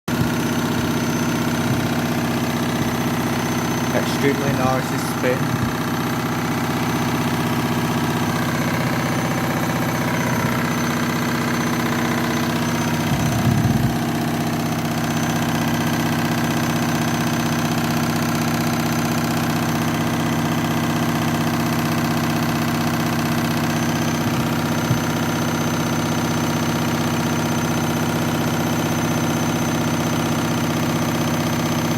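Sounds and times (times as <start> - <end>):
washing machine rattle: 0.1 - 31.9
washing machine spinning: 0.1 - 31.9.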